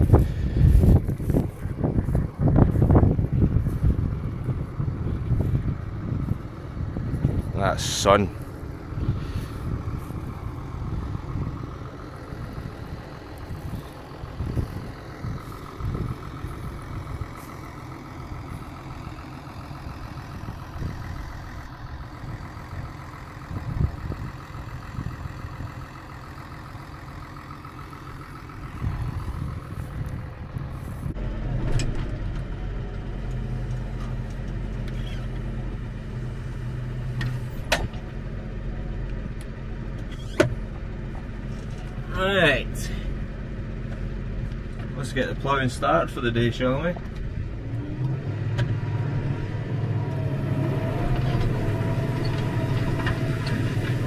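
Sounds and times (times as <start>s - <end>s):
tractor engine rumbling: 0.0s - 54.0s.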